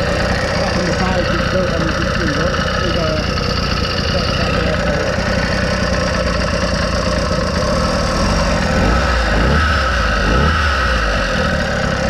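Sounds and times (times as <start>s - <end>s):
two-stroke engine running: 0.0s - 12.0s.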